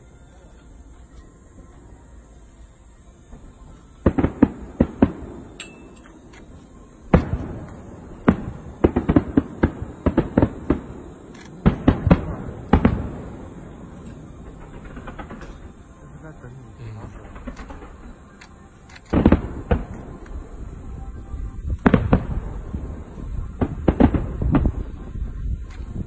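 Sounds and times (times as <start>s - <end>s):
fireworks bangs: 3.1s - 18.4s, 19.1s - 26.0s.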